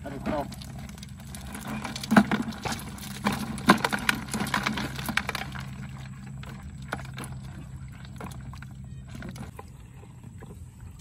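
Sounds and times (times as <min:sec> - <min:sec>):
crab trap rattling against bucket: 0:00.0 - 0:10.6.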